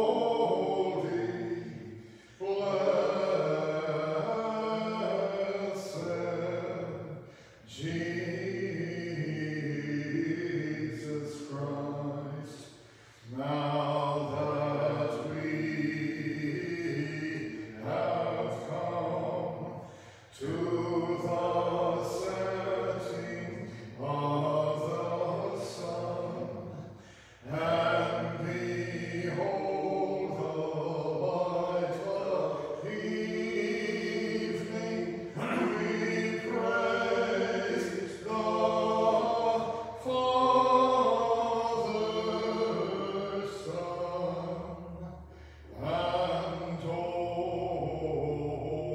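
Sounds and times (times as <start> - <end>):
unaccompanied liturgical chant: 0.0 - 48.9.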